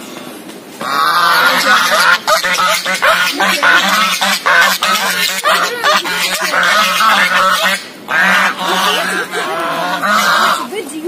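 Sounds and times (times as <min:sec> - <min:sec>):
waterfowl honking: 0:00.8 - 0:10.8.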